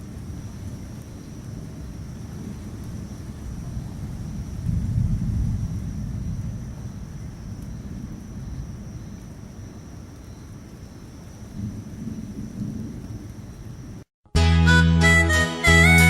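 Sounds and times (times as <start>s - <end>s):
rolling thunder: 0.0s - 14.0s
rain hiss: 0.0s - 14.1s.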